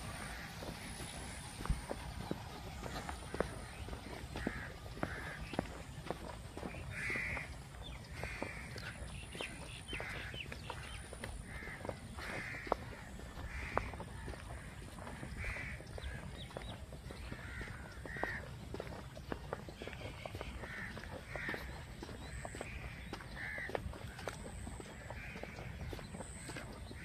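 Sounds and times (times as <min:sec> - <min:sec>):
crows cawing: 0:00.0 - 0:27.0
footsteps on dirt path: 0:00.0 - 0:27.0
wind rumble on microphone: 0:00.0 - 0:27.0.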